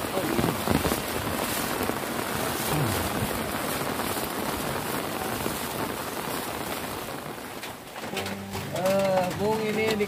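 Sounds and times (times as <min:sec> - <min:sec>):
heavy rain falling on water: 0:00.0 - 0:10.0.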